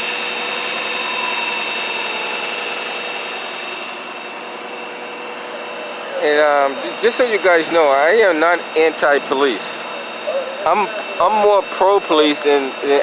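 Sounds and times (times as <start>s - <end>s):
vehicle engine and traffic noise: 0.0s - 13.0s.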